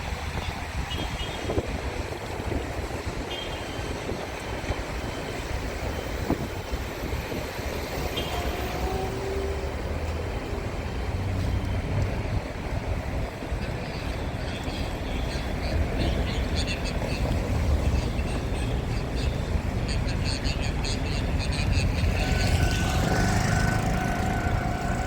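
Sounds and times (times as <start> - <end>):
vehicle engine rumbling: 4.0 - 25.0.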